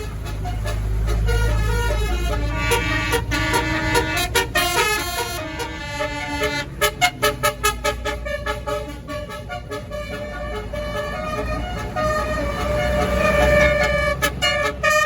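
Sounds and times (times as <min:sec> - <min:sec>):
bus engine rumble: 0:00.0 - 0:15.0
musical bus horn: 0:00.0 - 0:15.0.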